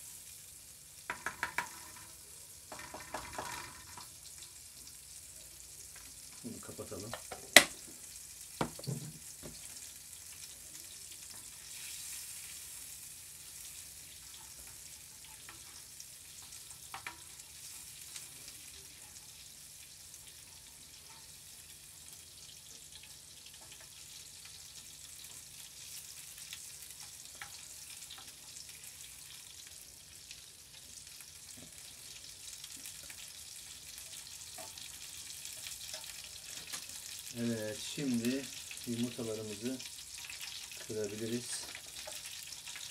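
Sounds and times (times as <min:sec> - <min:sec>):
butter sizzling in a pan: 0:00.0 - 0:42.9.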